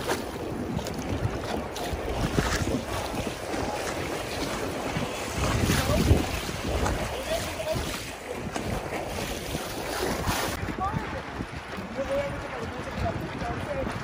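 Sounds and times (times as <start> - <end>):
water lapping and splashing: 0.0 - 14.0
wind buffeting microphone: 0.0 - 14.0.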